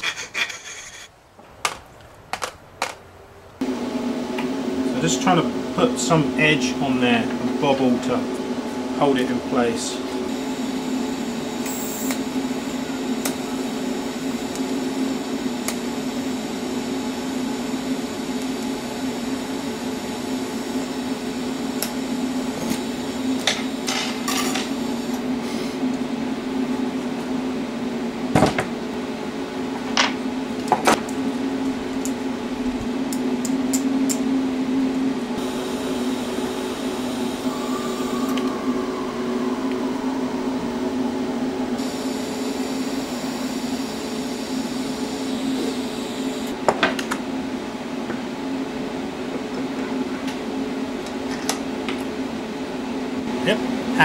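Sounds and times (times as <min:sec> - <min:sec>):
welder humming: 0:03.6 - 0:47.2.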